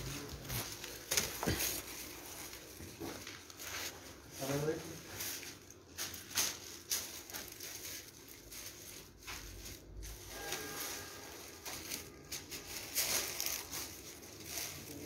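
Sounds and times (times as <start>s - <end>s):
paper kites rustling: 0.0s - 15.0s.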